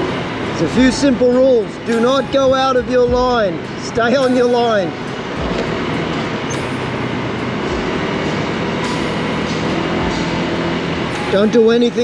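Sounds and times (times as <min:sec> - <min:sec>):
low scooter engine hum: 0:00.0 - 0:12.0
wind and road noise: 0:00.0 - 0:12.0.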